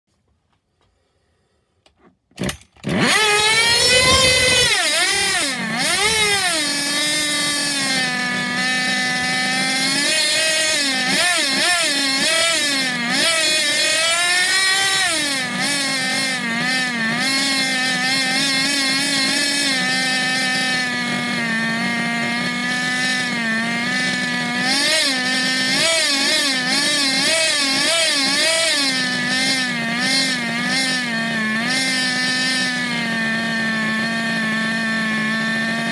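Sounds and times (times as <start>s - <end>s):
small nitro engine revving: 2.4s - 35.9s.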